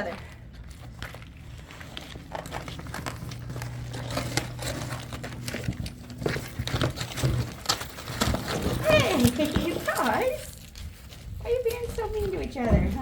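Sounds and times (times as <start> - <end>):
low steady hum: 0.0 - 13.0
rustling and crackling clicks: 0.0 - 13.0.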